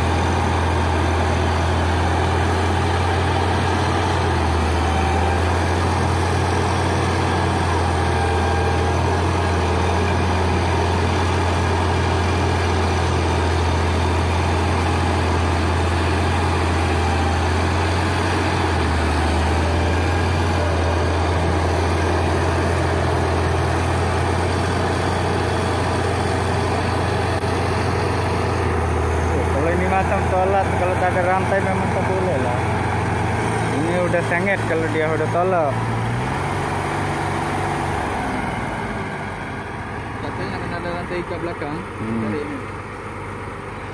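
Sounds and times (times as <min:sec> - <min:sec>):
diesel engine running at low revs: 0:00.0 - 0:43.9.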